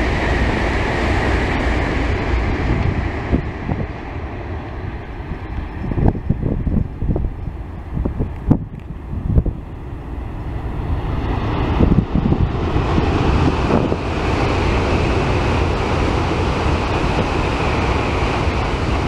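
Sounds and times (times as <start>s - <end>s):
train passing at speed: 0.0s - 19.0s
wind buffeting microphone: 0.0s - 19.0s.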